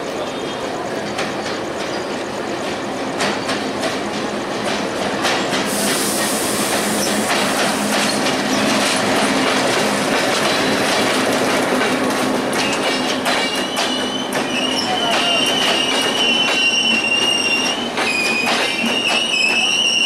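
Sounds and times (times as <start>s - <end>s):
train wheels clacking over rail joints: 0.8s - 20.0s.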